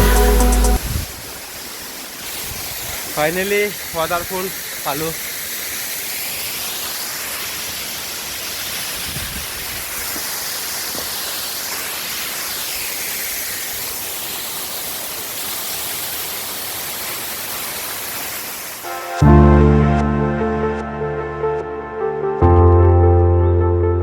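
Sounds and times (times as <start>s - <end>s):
waterfall splashing: 0.0s - 19.2s.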